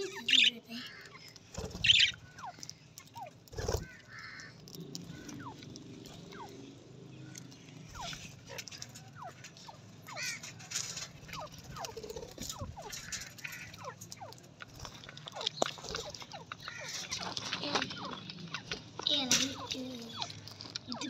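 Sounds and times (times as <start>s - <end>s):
birds chirping: 0.0s - 21.0s
warbling bird calls: 0.0s - 21.0s.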